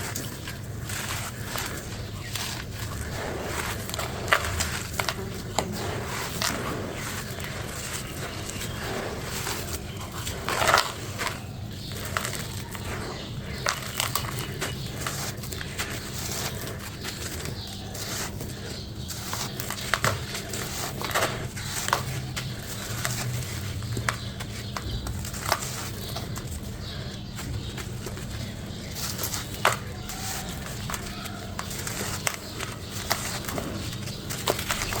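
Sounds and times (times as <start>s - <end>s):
crunchy pieces being crushed: 0.0s - 35.0s.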